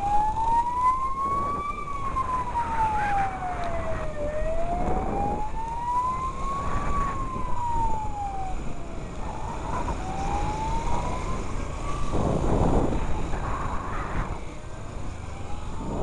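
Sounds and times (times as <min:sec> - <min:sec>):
fire engine siren wailing: 0:00.0 - 0:16.0
moving vehicle rumble: 0:00.0 - 0:16.0.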